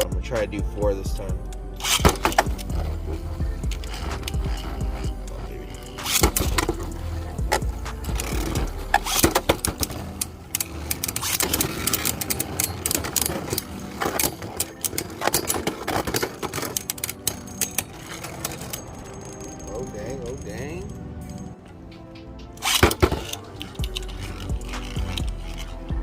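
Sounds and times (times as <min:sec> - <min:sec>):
spinning tops whirring and rattling: 0:01.4 - 0:26.0
spinning tops clacking together: 0:01.8 - 0:25.8.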